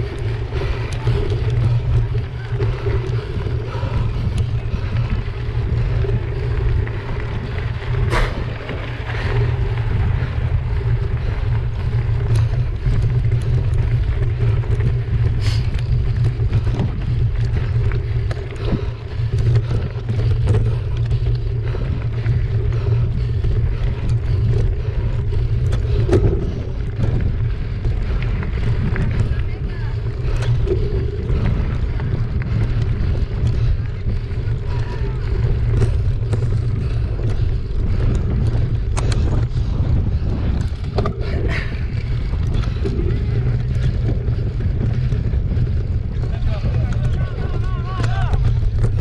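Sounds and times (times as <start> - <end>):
bike tyres on gravel: 0.0 - 49.0
stones and bike rattling: 0.0 - 49.0
wind rumble on microphone: 0.0 - 49.0.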